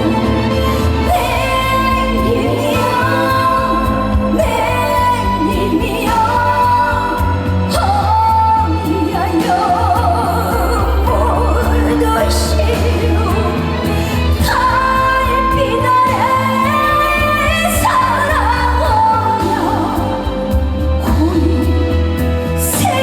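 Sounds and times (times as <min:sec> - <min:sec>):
woman singing with vibrato: 0:00.0 - 0:23.0.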